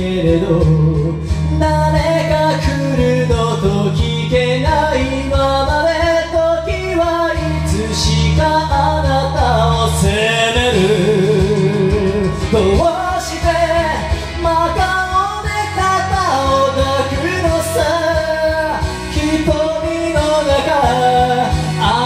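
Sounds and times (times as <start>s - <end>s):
karaoke backing track: 0.0s - 22.0s
person singing pop ballad: 0.0s - 22.0s.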